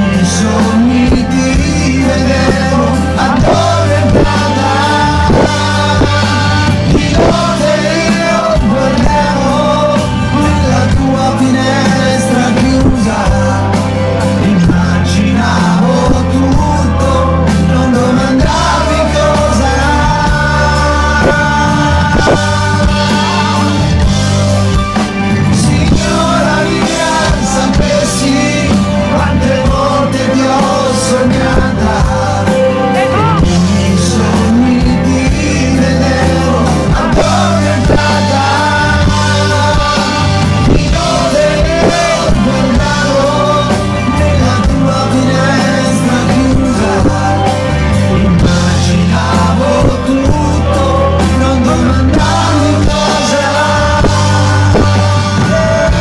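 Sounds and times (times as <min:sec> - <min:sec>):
live pop band playing: 0:00.0 - 0:56.0
man singing: 0:00.0 - 0:56.0.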